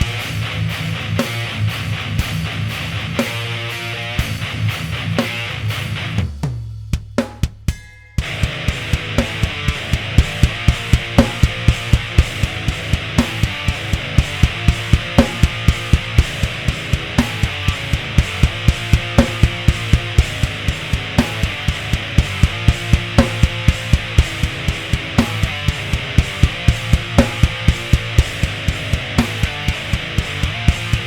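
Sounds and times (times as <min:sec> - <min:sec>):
rock music with electric guitar: 0:00.0 - 0:06.6, 0:07.8 - 0:31.0
fast drum beat: 0:04.2 - 0:31.0.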